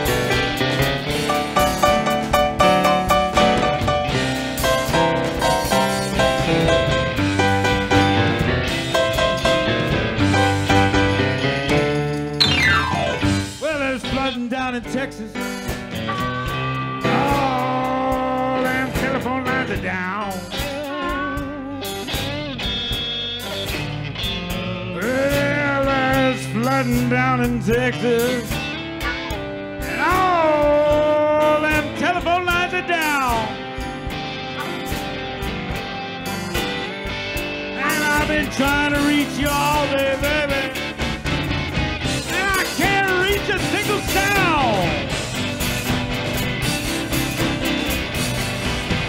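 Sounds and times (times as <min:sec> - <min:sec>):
electric guitar solo: 0:00.0 - 0:13.6, 0:15.9 - 0:18.0, 0:20.3 - 0:25.6, 0:28.5 - 0:49.0
blues-rock band playing: 0:00.0 - 0:49.0
drums: 0:00.0 - 0:49.0
keyboard: 0:00.0 - 0:49.0.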